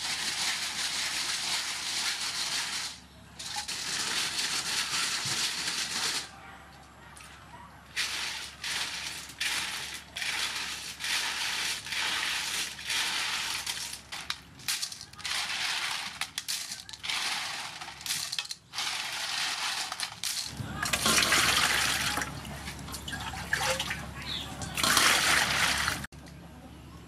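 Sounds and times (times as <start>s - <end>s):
snail shells clattering in metal basin: 0.0s - 6.3s, 7.9s - 26.1s.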